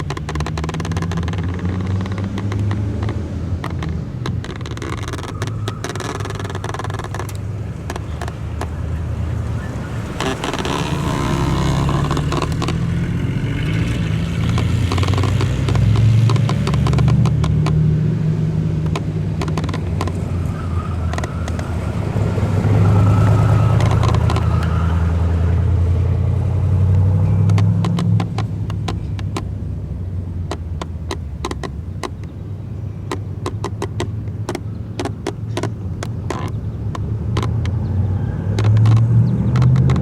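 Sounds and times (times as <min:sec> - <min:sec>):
sharp clicks: 0:00.0 - 0:25.6, 0:26.6 - 0:40.0
car engine revving: 0:00.0 - 0:40.0.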